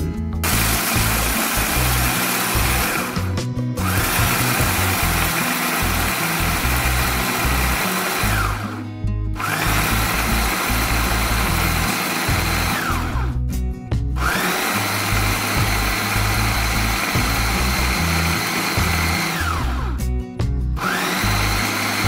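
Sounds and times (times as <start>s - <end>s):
background music: 0.0s - 22.0s
food chopper motor whirring: 0.4s - 8.8s, 9.4s - 13.4s, 14.2s - 20.0s, 20.8s - 22.0s.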